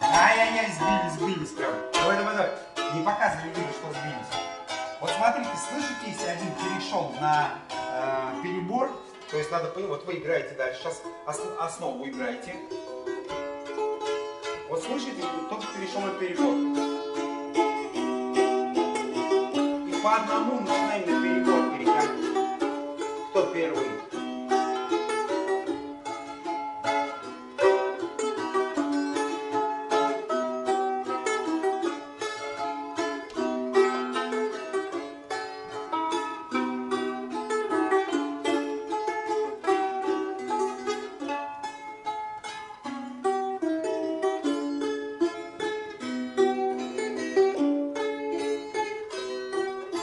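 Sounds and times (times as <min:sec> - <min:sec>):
balalaikas strumming: 0:00.0 - 0:50.0.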